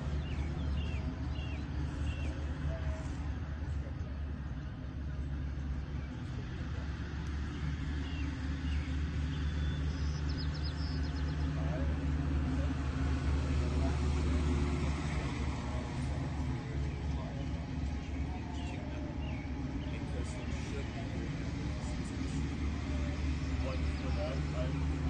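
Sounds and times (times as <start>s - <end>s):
engine low rumble: 0.0s - 25.0s.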